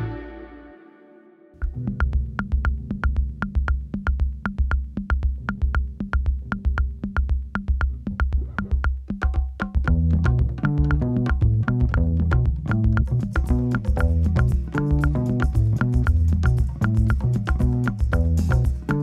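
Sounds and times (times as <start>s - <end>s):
electronic music with drum beat: 1.6s - 19.0s.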